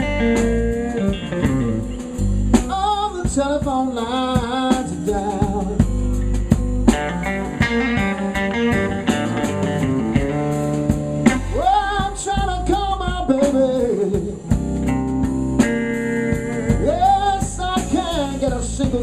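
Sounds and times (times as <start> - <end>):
bass guitar: 0.0 - 19.0
drum kit: 0.0 - 19.0
electric guitar bending notes: 0.0 - 19.0.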